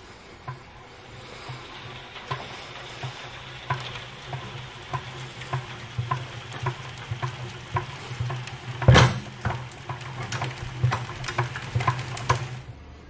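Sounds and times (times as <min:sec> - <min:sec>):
honey extractor humming: 0:00.0 - 0:13.0.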